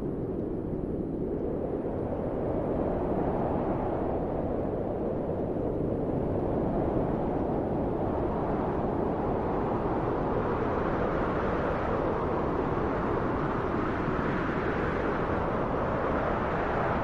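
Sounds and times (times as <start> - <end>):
steady wind blowing: 0.0 - 17.0.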